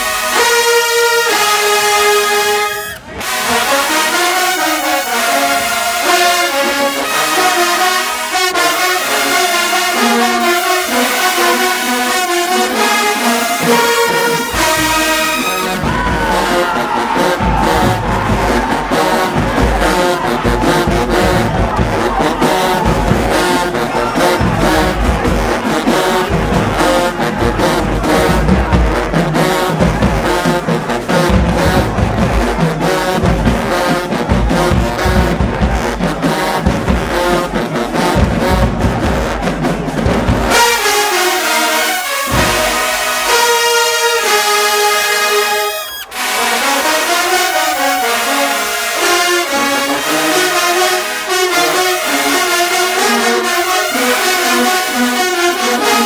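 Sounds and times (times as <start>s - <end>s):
drums beating: 0.0s - 56.0s
marching band brass playing: 0.0s - 56.0s.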